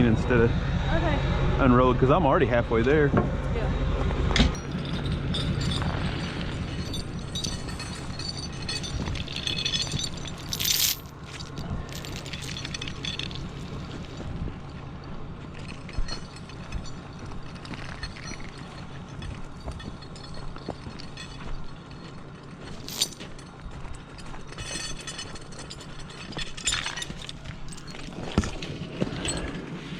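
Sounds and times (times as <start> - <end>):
engine humming: 0.0 - 29.9
tow chain clinking and rattling: 4.4 - 29.9.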